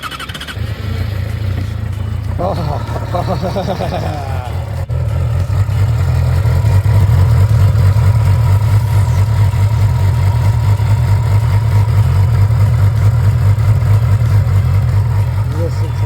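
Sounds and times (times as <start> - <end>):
motorcycle engine running steadily: 0.0 - 16.0.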